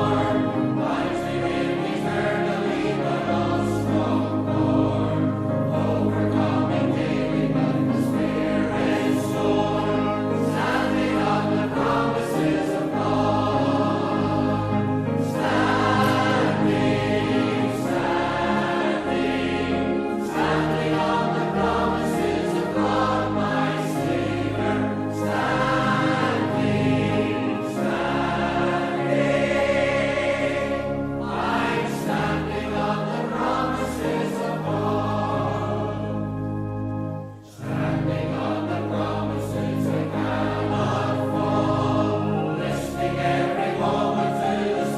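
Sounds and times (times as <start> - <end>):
choir singing a hymn: 0.0 - 44.9.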